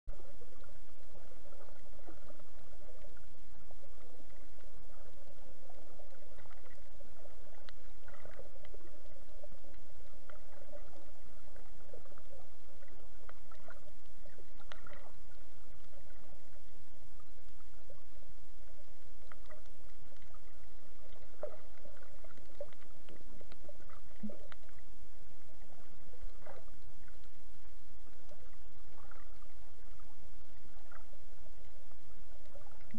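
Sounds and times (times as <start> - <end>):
faint gurgles: 0.1 - 32.9
muffled underwater rumble: 0.1 - 32.9.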